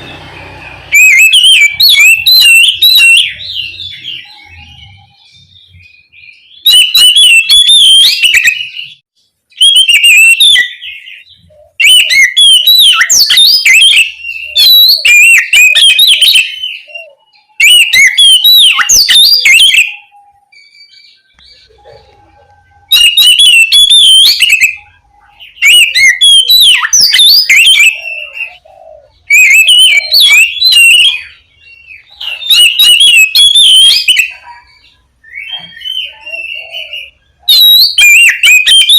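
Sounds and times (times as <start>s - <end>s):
bird singing whistles: 0.0s - 38.9s.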